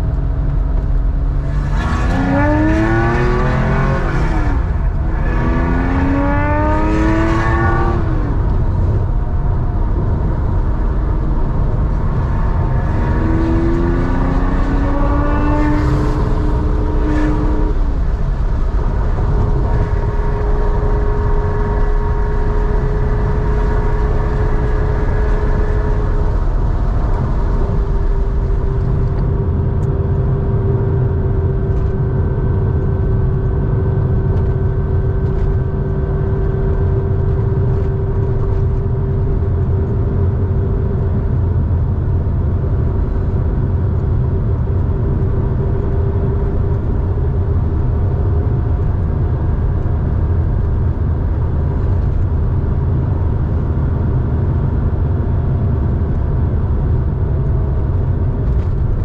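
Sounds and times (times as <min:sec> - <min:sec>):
car engine accelerating hard: 0:00.0 - 0:59.0
constant low rumble: 0:00.0 - 0:59.0.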